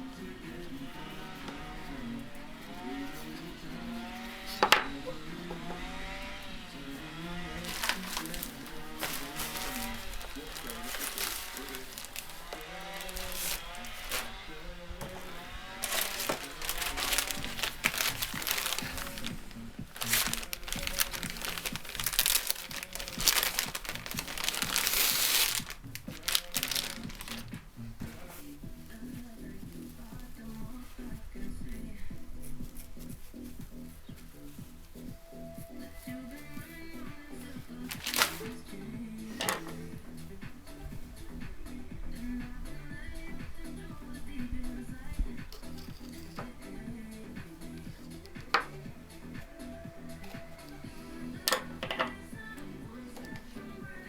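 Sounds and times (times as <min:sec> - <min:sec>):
material crinkling and rustling: 0:00.0 - 0:41.1, 0:44.0 - 0:54.0
background music: 0:00.0 - 0:54.0.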